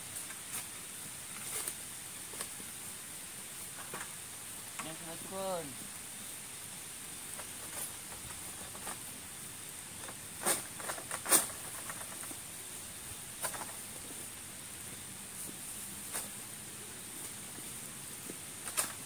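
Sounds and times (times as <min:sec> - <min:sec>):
light rain hissing: 0:00.0 - 0:19.0.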